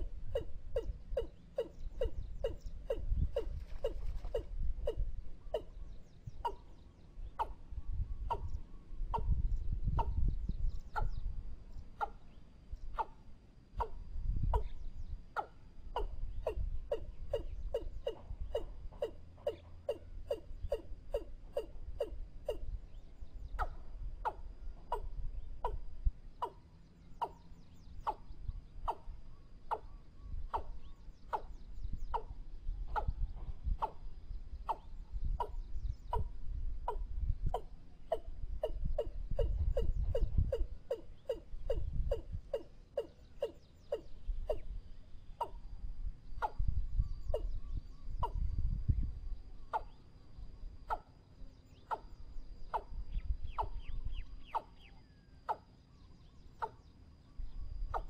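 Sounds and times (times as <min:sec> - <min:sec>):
faint small bird chirps: 0:00.0 - 0:58.0.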